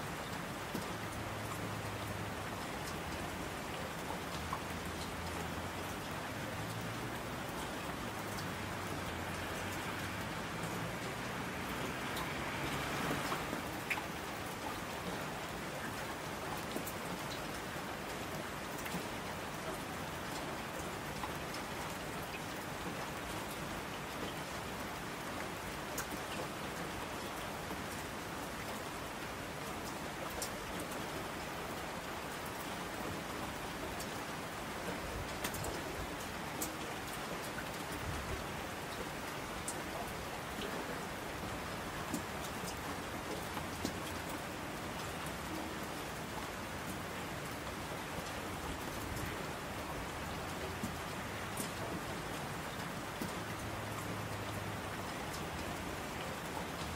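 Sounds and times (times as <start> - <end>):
steady rain: 0.0 - 56.9
rain drop ticks: 0.2 - 24.6, 25.2 - 31.1, 33.7 - 34.2, 34.8 - 56.9.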